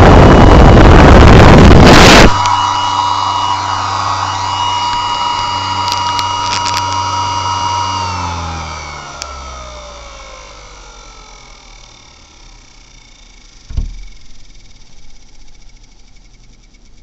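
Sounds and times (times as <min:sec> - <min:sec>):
blower fan motor whining: 0:00.0 - 0:17.0.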